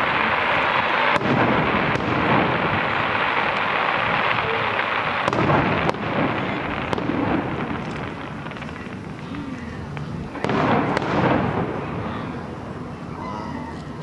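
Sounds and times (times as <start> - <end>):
fireworks bangs: 0.0 - 12.6
fireworks crackling: 0.0 - 14.0.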